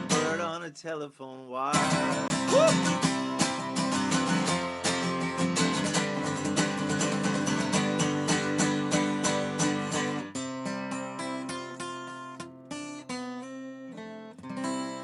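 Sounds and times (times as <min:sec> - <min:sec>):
acoustic guitar strumming: 0:00.0 - 0:00.8, 0:01.6 - 0:15.0.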